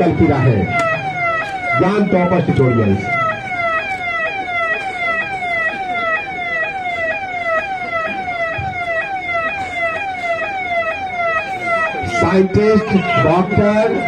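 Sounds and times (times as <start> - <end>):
electronic siren wailing: 0.0 - 14.0.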